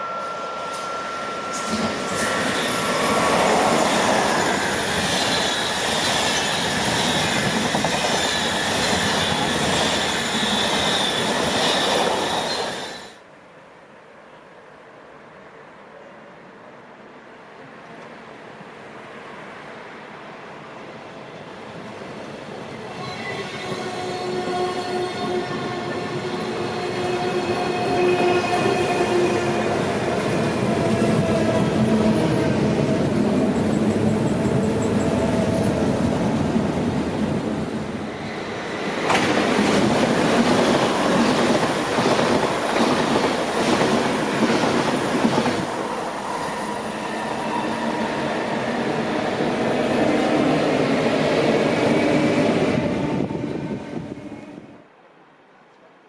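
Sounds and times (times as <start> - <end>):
electric train whine: 0.0 - 13.3, 21.1 - 54.9.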